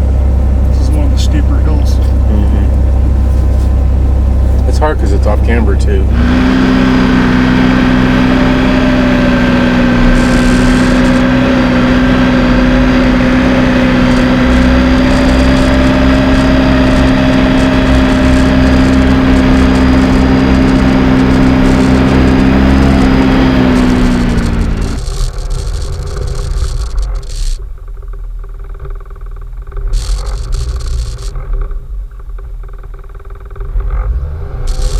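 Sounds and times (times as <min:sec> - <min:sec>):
engine running at high revs: 0:00.0 - 0:27.6, 0:29.8 - 0:31.7, 0:33.6 - 0:34.9.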